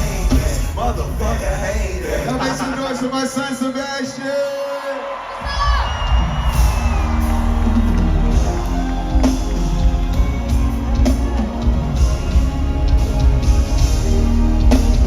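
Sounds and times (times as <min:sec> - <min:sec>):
crowd noise: 0:00.0 - 0:15.0
loud live concert music: 0:00.0 - 0:15.0.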